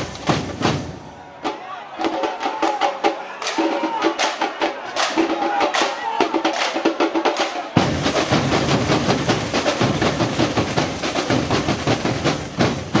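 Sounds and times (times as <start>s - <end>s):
fast snare drum strokes: 0.0s - 13.0s.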